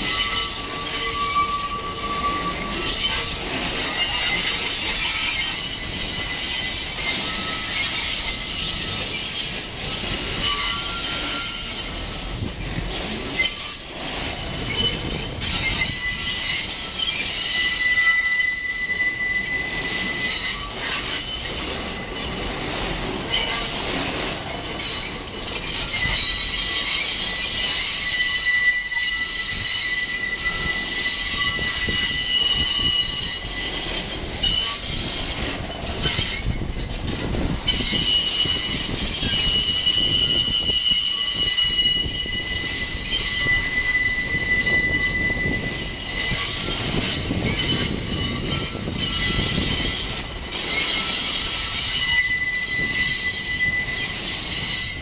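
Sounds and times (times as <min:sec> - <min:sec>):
low rumble of train: 0:00.0 - 0:55.0
steel wheels squealing: 0:00.0 - 0:55.0.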